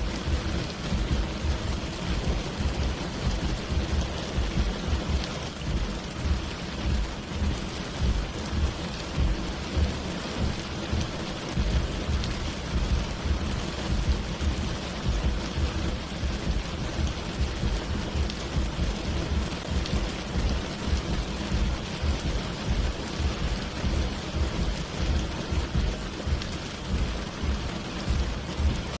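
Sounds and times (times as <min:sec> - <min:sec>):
low rumble: 0:00.0 - 0:29.0
rain falling: 0:00.0 - 0:29.0.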